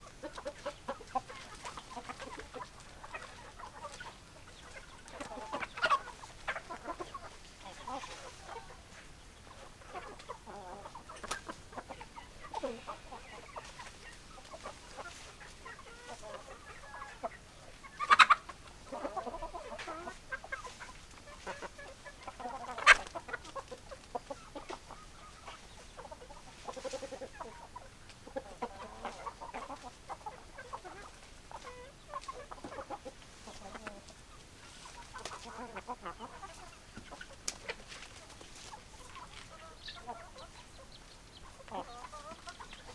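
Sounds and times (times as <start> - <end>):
hens clucking: 0.0 - 42.9.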